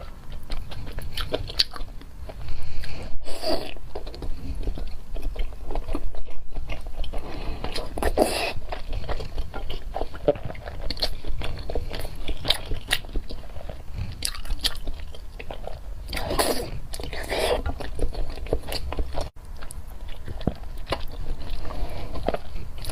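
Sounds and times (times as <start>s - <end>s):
person chewing food: 0.0s - 22.9s.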